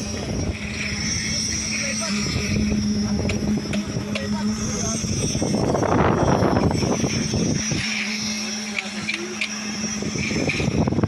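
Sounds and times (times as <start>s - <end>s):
construction machinery rumbling: 0.0s - 11.0s.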